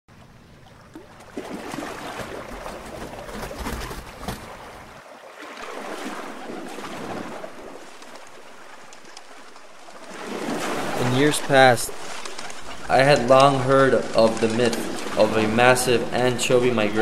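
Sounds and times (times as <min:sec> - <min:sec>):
sea water splashing: 0:00.1 - 0:17.0.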